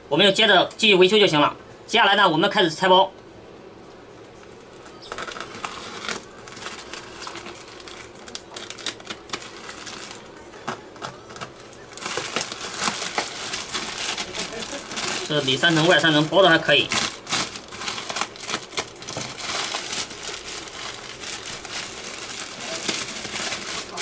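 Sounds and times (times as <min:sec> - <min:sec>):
packaging crinkling and rustling: 0:04.4 - 0:24.0.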